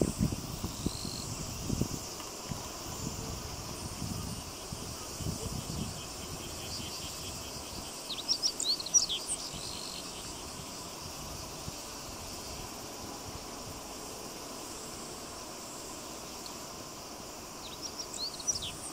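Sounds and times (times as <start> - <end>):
faint insect buzz: 0.0 - 18.9.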